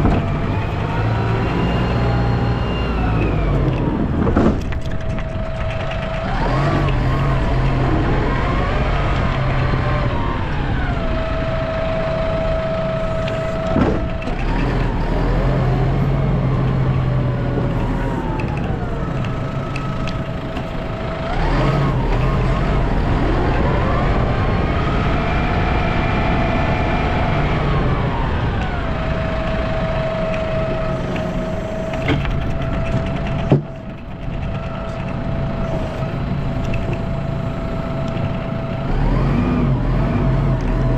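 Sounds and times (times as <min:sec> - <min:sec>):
vehicle engine revving: 0:00.0 - 0:40.9.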